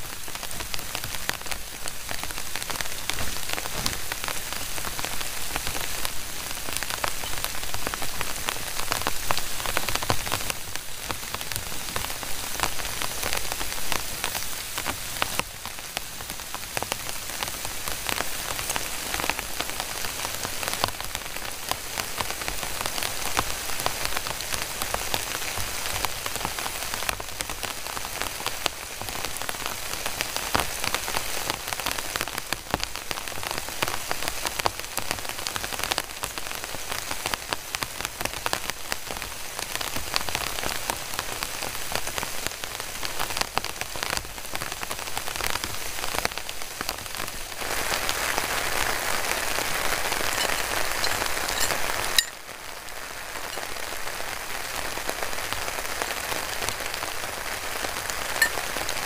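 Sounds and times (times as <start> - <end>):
heavy rain on a tent: 0.0 - 59.0.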